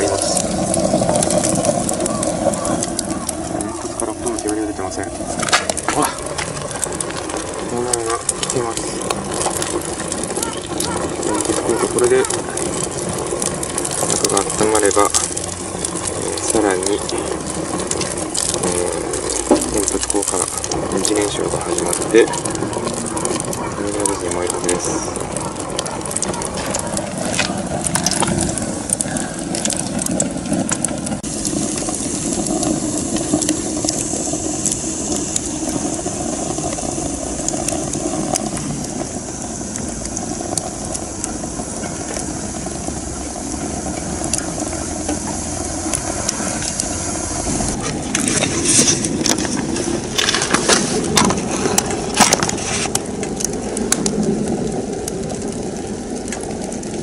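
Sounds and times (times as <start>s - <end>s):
wood fire rushing and crackling: 0.0s - 57.0s.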